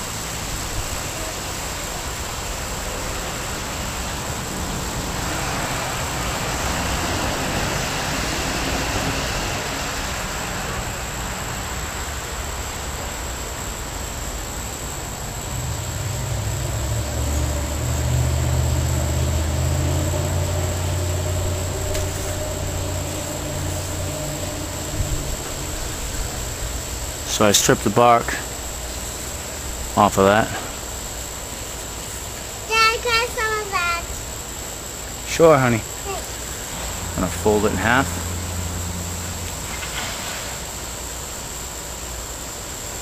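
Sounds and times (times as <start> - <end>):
distant engine drone: 0.0 - 43.0
steady outdoor hiss: 0.0 - 43.0.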